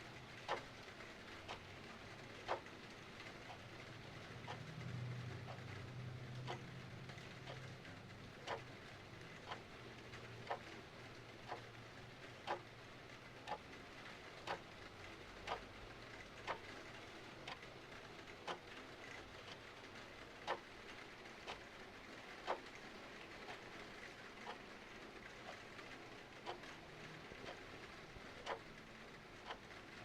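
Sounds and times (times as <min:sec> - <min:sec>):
mechanical clock ticking: 0:00.1 - 0:30.0.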